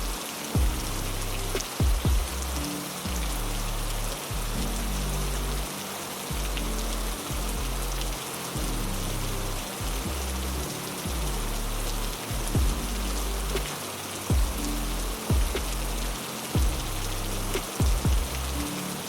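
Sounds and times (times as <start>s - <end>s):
heavy rain hissing: 0.0s - 19.0s
low sustained musical notes: 0.0s - 19.0s.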